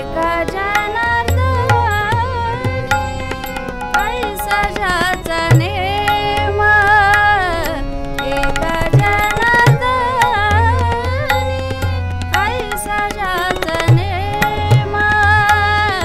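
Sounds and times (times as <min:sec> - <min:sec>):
harmonium: 0:00.0 - 0:16.0
tabla playing a rhythm: 0:00.0 - 0:16.0
woman singing: 0:00.0 - 0:16.0.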